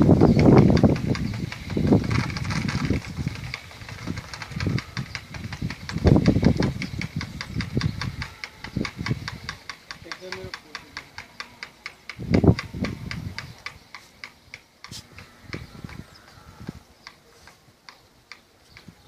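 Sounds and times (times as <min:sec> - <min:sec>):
low gusts: 0:00.0 - 0:18.2.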